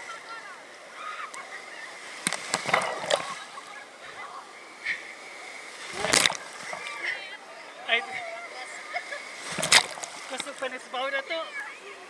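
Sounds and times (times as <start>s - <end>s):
water splashing and sloshing: 0.0s - 7.5s, 8.1s - 10.9s.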